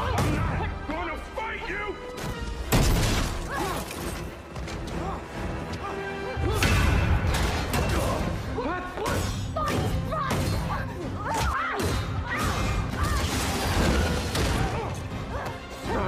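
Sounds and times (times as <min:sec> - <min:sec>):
film score music: 0:00.0 - 0:16.0.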